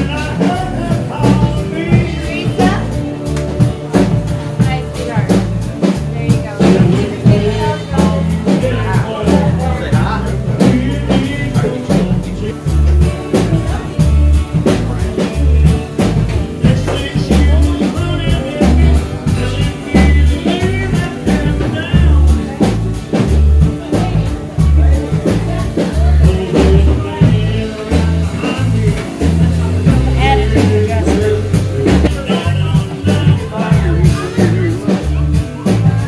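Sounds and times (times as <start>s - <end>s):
song with singing guitar and drums: 0.0s - 36.0s.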